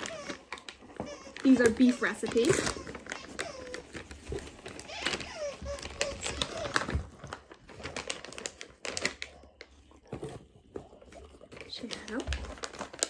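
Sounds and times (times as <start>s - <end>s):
plastic pouch crinkling: 0.0s - 13.0s.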